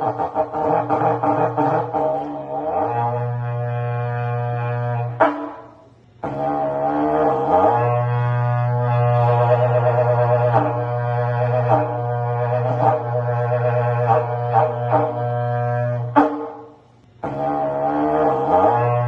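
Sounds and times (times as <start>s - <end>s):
horn blown in long low note: 0.0s - 19.0s.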